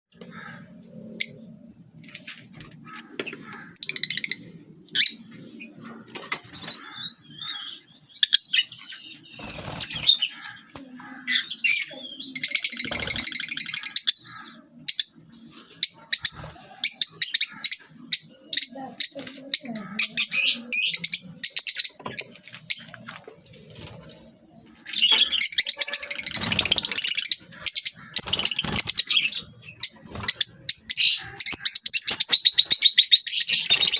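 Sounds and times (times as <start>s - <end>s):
parrots chirping and chattering: 0.2s - 33.9s.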